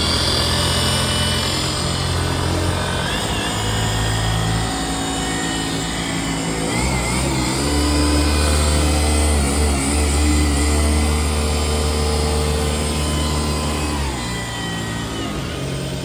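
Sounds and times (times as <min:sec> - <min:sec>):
polisher motor hum: 0:00.0 - 0:16.0.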